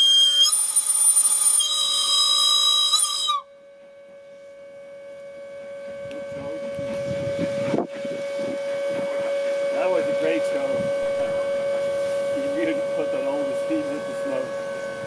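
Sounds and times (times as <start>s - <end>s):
multi-tone steam whistle: 0.0s - 15.0s.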